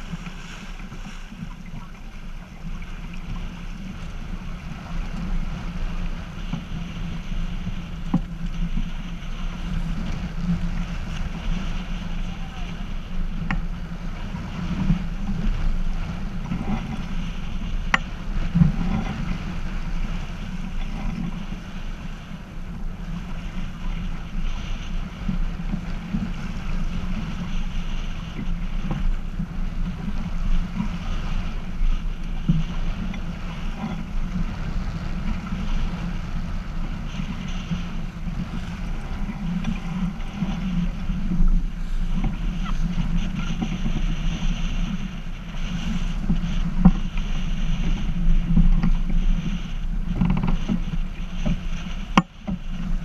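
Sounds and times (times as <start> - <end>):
water rushing along hull: 0.0 - 53.0
wind buffeting microphone: 0.0 - 53.0.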